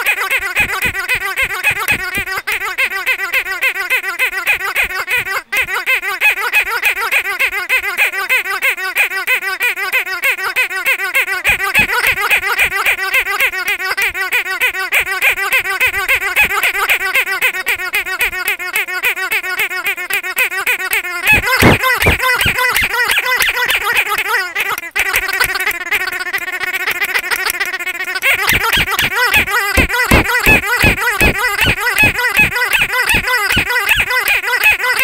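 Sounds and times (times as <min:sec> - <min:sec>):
squeaky dog toy squeaks: 0:00.0 - 0:35.0.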